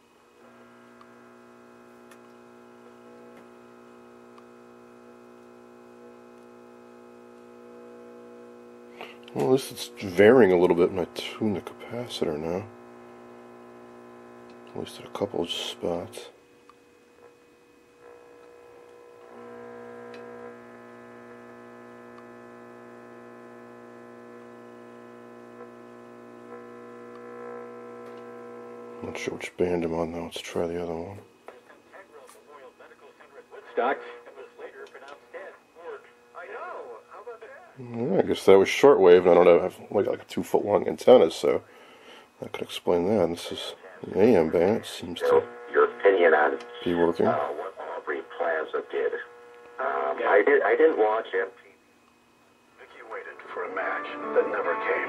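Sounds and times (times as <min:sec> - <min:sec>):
radio loudspeaker humming: 0:00.4 - 0:16.4, 0:17.1 - 0:51.8, 0:52.7 - 0:55.0.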